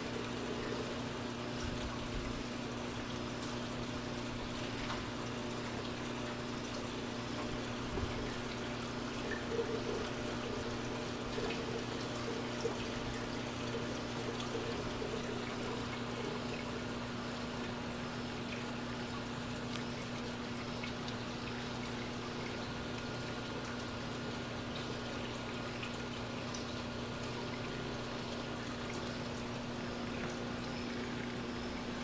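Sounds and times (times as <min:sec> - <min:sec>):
constant low hum: 0:00.0 - 0:32.0
water trickling and pouring: 0:00.0 - 0:32.0.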